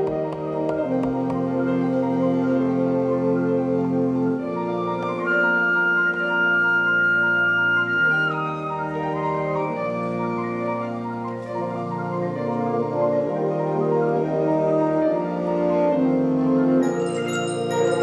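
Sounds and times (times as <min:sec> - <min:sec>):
wind ensemble playing chords: 0:00.0 - 0:18.0.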